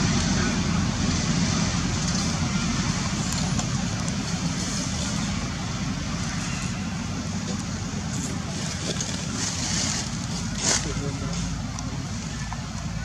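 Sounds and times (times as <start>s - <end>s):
road traffic rumble and hiss: 0.0s - 13.0s.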